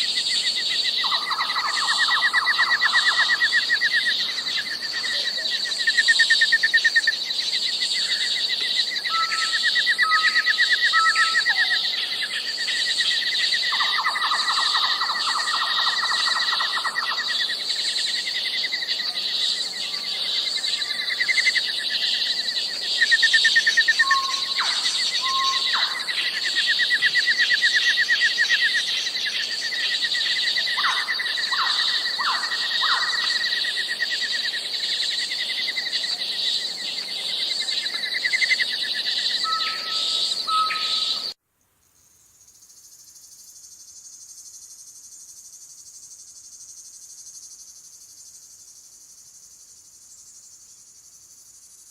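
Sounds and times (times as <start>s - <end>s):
faint high insect chirring: 0.0s - 51.9s
high insect drone: 0.0s - 51.9s.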